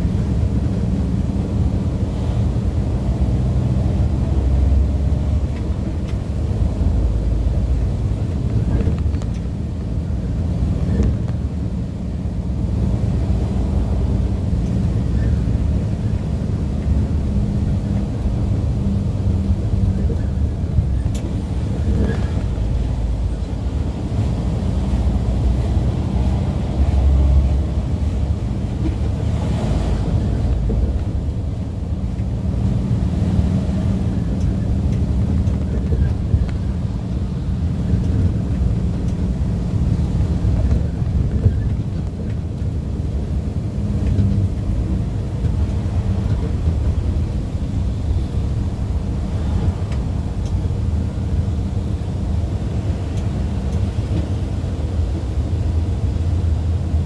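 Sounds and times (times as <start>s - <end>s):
vehicle engine and tyres rumbling: 0.0s - 57.0s.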